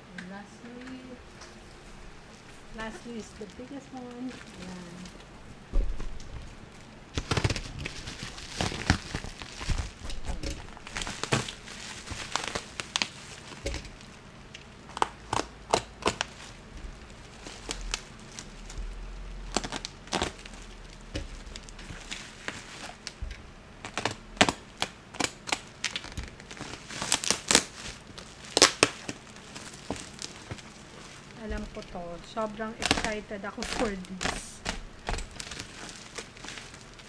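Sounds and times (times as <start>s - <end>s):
plastic packaging crinkling and tearing: 0.2s - 37.0s.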